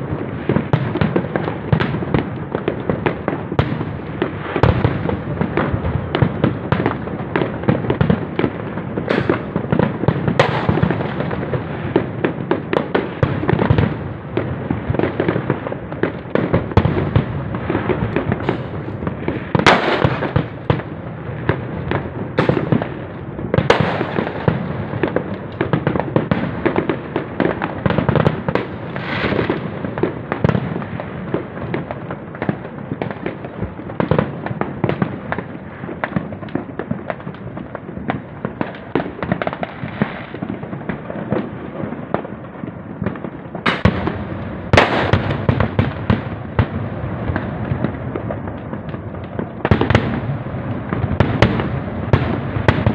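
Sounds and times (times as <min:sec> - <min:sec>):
fireworks bursts and crackling: 0:00.0 - 0:52.9
loud firework bangs: 0:00.0 - 0:52.9.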